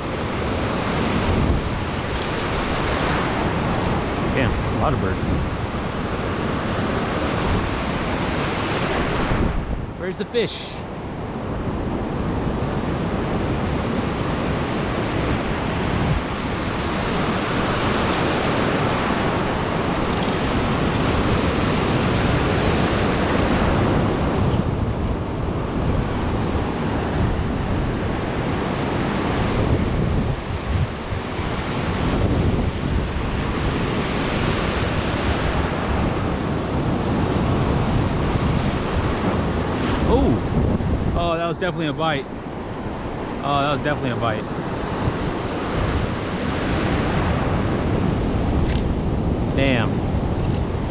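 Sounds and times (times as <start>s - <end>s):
wind buffeting microphone: 0.0s - 10.1s, 10.7s - 50.9s
ocean surf breaking on beach: 0.0s - 50.9s.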